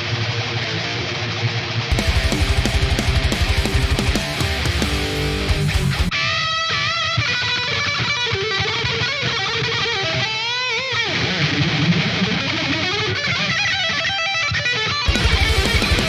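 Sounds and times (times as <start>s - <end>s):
distorted electric guitar solo: 0.0s - 16.0s
heavy metal rhythm guitars: 0.0s - 16.0s
drums: 1.9s - 13.7s, 14.6s - 16.0s.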